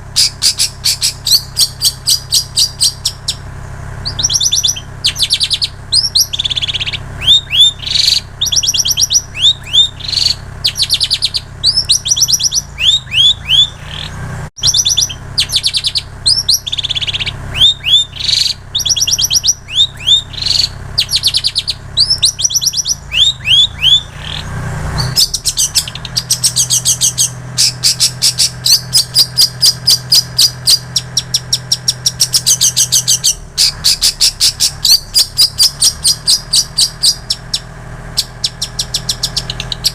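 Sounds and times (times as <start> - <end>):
shrike singing chirps and trills: 0.0 - 39.9.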